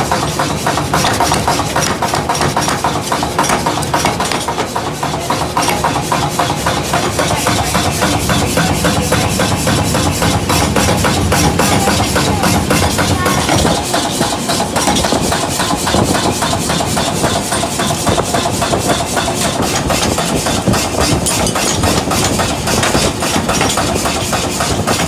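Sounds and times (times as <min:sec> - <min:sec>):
workshop machinery running: 0:00.0 - 0:25.0
fast even knocking: 0:00.2 - 0:25.0.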